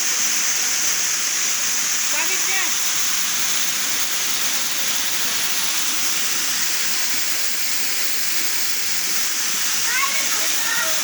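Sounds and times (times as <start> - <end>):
water rushing into a pool: 0.0 - 11.0.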